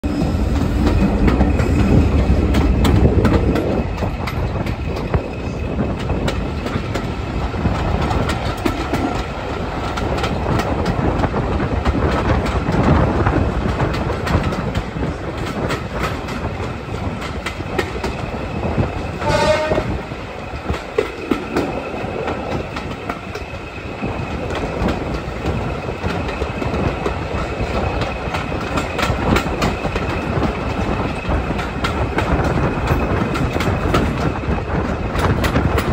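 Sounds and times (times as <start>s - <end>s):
train wheels clattering on rails: 0.0s - 35.9s.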